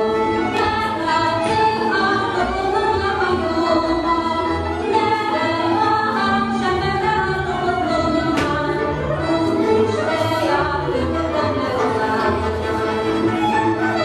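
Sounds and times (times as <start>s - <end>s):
folk instrumental accompaniment: 0.0s - 14.0s
women singing: 0.0s - 14.0s.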